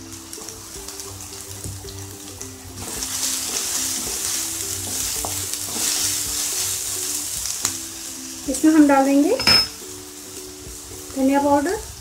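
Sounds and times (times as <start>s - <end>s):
onions sizzling in oil: 0.0s - 12.0s
soft background music: 0.0s - 12.0s.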